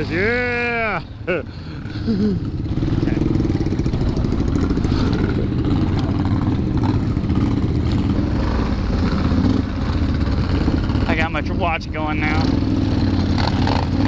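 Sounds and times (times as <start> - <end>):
engine running loudly: 0.0 - 14.0.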